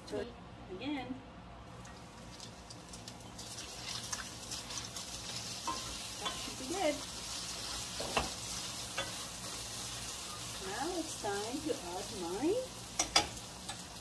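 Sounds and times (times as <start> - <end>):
beef sizzling in a pan: 1.8 - 14.0.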